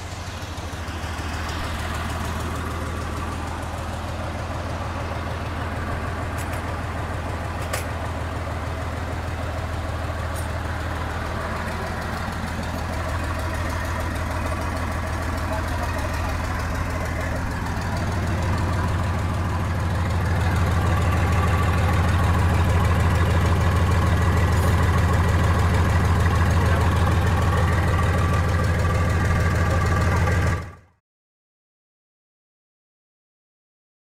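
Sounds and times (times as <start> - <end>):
car engine running: 0.0 - 30.8.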